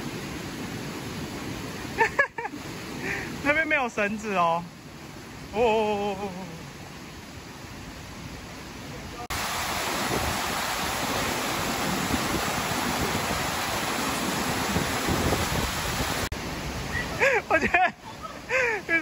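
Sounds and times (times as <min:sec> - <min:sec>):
stream murmur: 0:00.0 - 0:19.0
waterfall rushing: 0:00.0 - 0:19.0.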